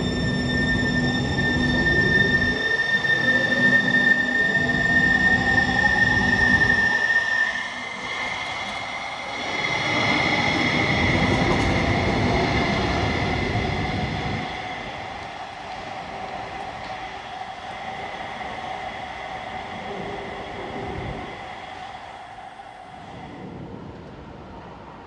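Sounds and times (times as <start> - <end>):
train wheels rumbling on rail: 0.0 - 23.5
high steady train whine: 0.0 - 25.0.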